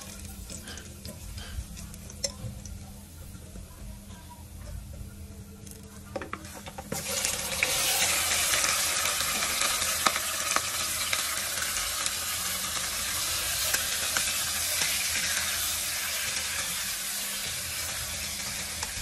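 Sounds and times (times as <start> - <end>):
fish sizzling in hot oil: 0.0 - 4.9, 5.6 - 19.0.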